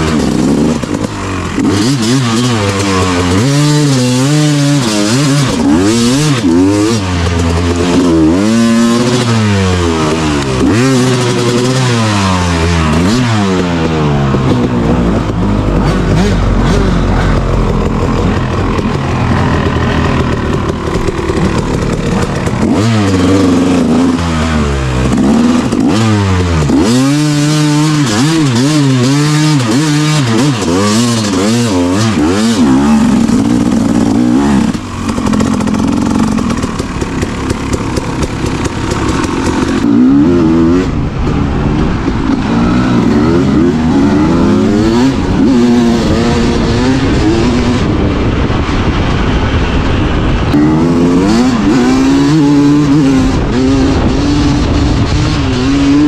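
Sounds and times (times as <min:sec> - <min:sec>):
dirt bike engine revving: 0:00.0 - 0:56.0
wind noise: 0:03.2 - 0:56.0.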